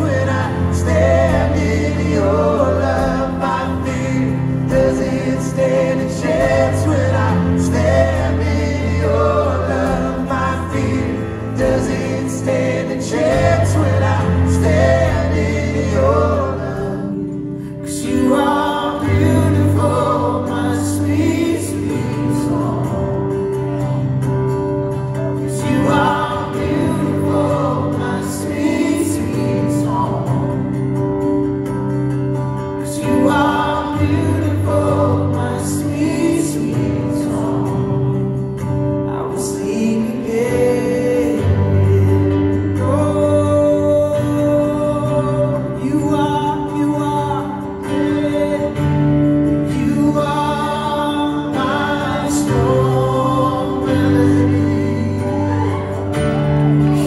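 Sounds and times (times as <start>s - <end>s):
people singing: 0.0s - 57.0s.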